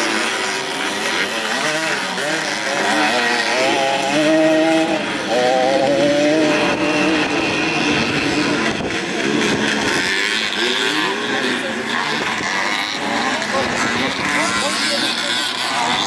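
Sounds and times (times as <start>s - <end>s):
motorcycles revving hard: 0.0s - 16.0s.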